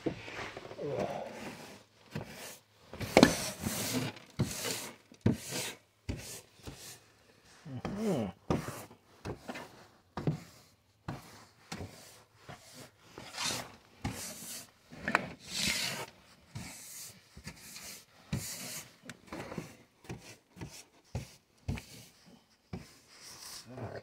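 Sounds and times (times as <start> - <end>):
broom sweeping wooden surface: 0.0 - 7.1, 8.5 - 23.7.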